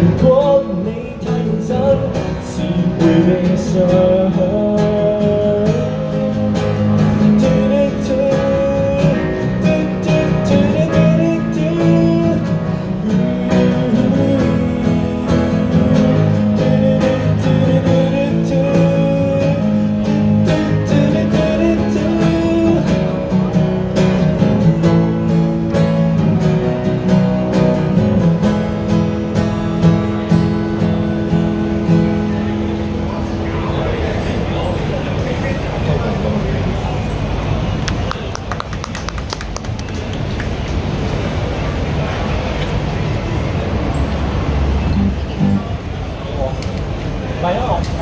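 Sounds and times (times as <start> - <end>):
strummed acoustic guitar: 0.0 - 36.8, 41.3 - 46.1.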